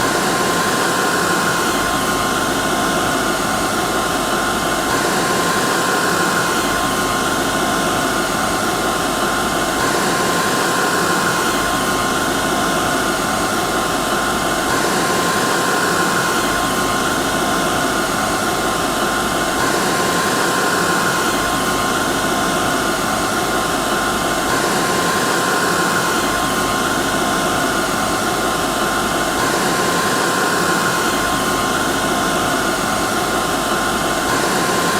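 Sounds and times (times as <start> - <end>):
hair dryer running: 0.0 - 34.9.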